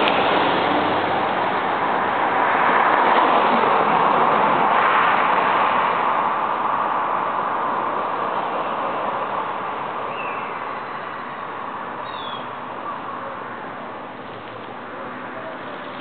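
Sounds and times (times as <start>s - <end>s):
cars passing on asphalt: 0.0s - 16.0s.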